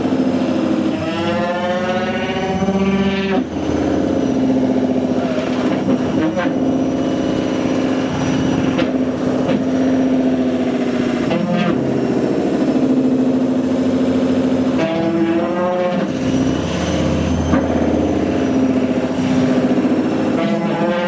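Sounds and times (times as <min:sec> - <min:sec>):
washing machine motor groaning drone: 0:00.0 - 0:21.0.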